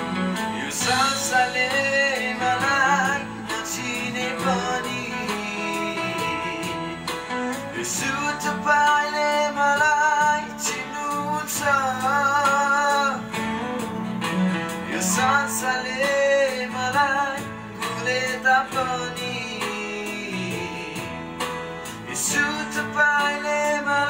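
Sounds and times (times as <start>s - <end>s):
guitar accompaniment: 0.0s - 24.0s
man singing into a microphone: 0.0s - 24.0s.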